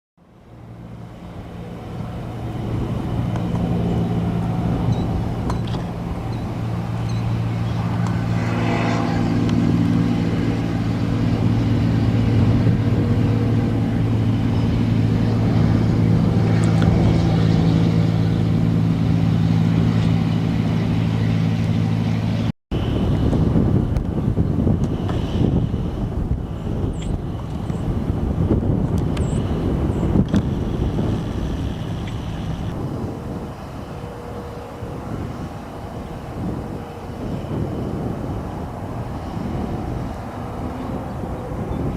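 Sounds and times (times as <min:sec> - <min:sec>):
propeller aircraft engine droning: 0:00.2 - 0:41.9
rushing noise: 0:00.2 - 0:41.9.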